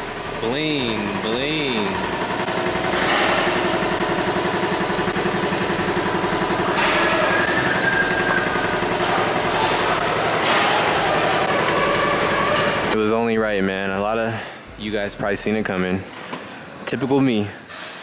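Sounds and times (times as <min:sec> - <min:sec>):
car engine idling: 0:00.0 - 0:15.7.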